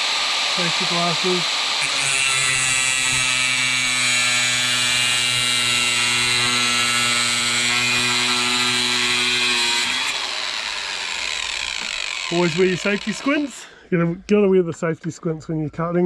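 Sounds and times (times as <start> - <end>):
power tool cutting steel: 0.0 - 13.7.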